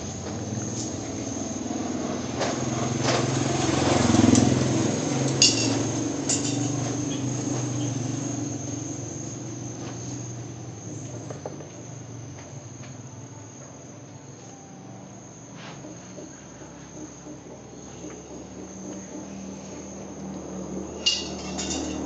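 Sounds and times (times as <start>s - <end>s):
high insect drone: 0.0s - 22.0s
low motor hum: 0.0s - 22.0s.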